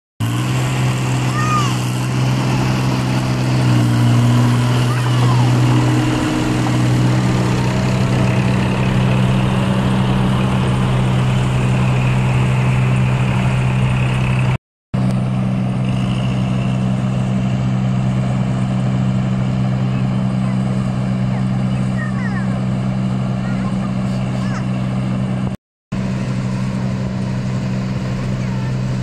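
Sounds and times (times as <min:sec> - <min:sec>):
diesel engines running steadily: 0:00.2 - 0:29.0.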